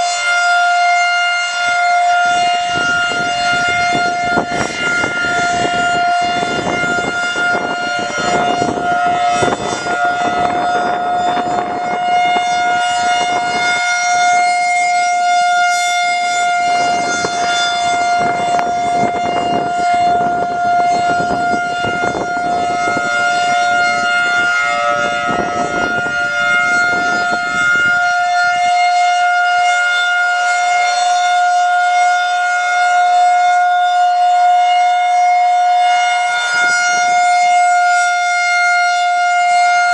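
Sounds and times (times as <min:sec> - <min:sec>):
storm siren steady tone: 0:00.0 - 0:39.9.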